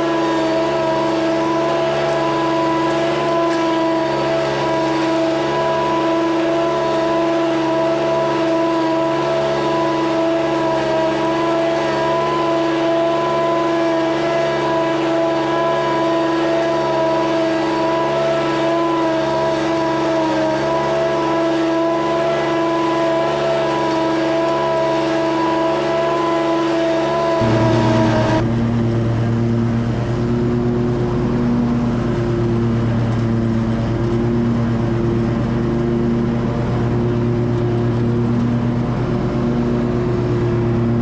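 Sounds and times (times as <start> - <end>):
small petrol engine running: 0.0 - 41.0.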